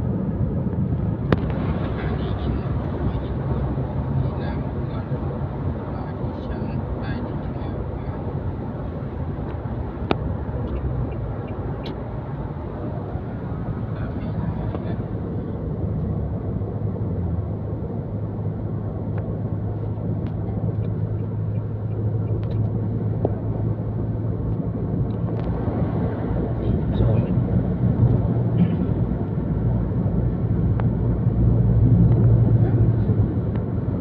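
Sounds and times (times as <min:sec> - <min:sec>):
vehicle rumbling: 0:00.0 - 0:34.0.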